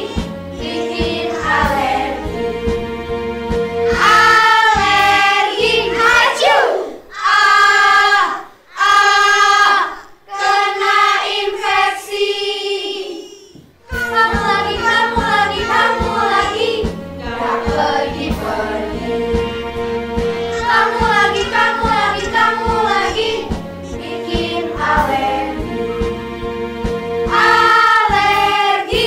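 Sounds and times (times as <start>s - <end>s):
children's choir singing: 0.0s - 26.5s, 27.2s - 29.0s
children's song with steady beat: 0.0s - 29.0s.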